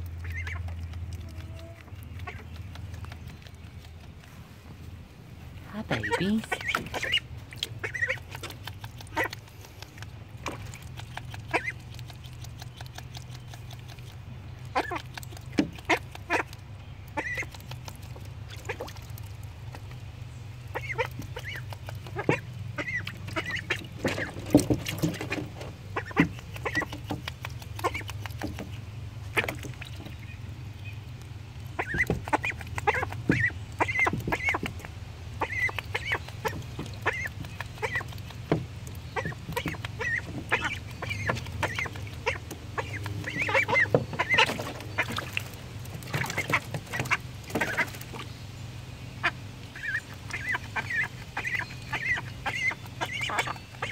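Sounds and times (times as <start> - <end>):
ducks splashing in water: 0.0 - 53.9.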